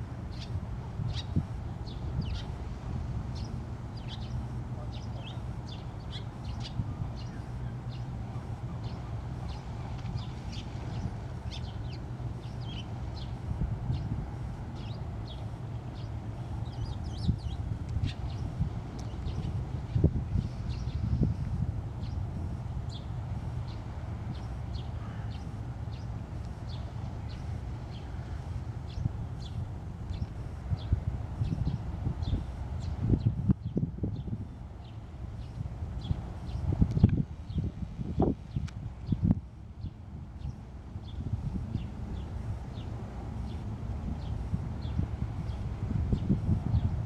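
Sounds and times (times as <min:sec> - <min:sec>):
steady low rumble: 0:00.0 - 0:47.0
small birds chirping: 0:00.3 - 0:02.6, 0:03.4 - 0:14.2, 0:14.8 - 0:21.3, 0:22.9 - 0:37.7, 0:38.4 - 0:47.0.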